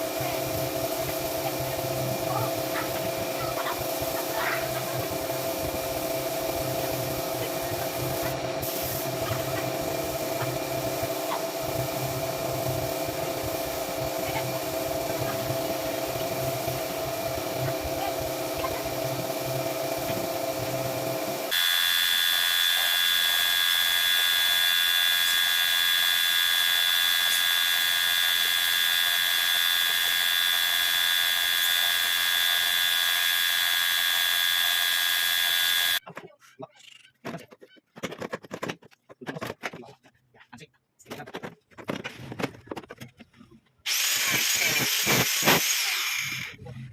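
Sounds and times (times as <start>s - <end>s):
power tool motor whining: 0.2s - 36.0s, 43.9s - 46.6s.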